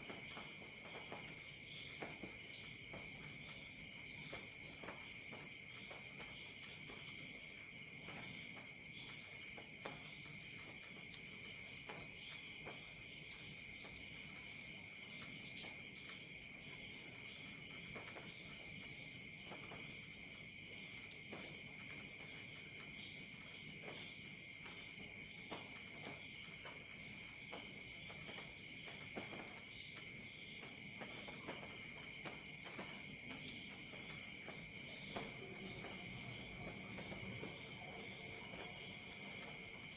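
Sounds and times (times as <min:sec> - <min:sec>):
night insects trilling: 0:00.1 - 0:39.9.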